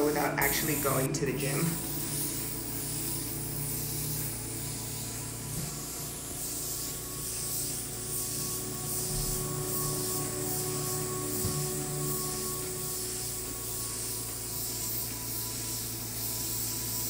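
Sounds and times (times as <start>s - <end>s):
airbrush spraying hiss: 0.0s - 17.0s.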